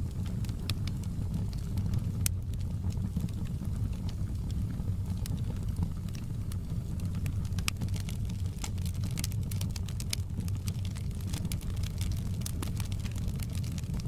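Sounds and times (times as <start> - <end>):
log fire crackling and popping: 0.0 - 14.0.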